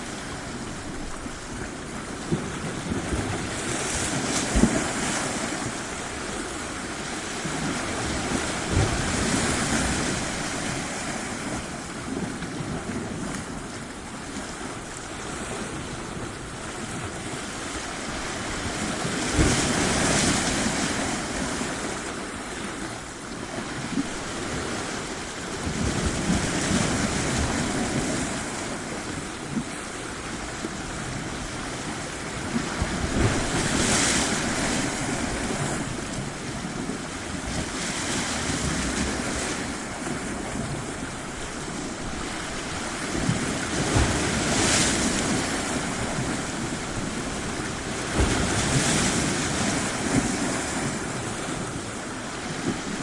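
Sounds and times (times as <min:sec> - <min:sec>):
sea waves breaking on shore: 0:00.0 - 0:53.0.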